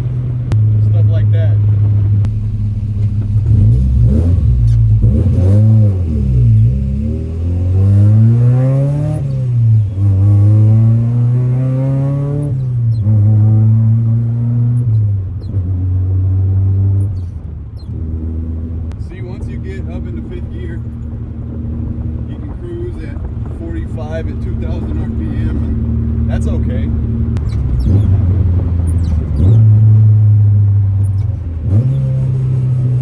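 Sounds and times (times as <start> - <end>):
car engine revving through gears: 0.0 - 33.0.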